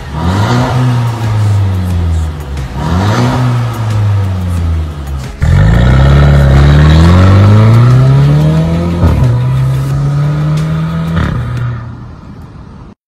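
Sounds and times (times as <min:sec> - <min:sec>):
car exhaust accelerating: 0:00.0 - 0:12.1.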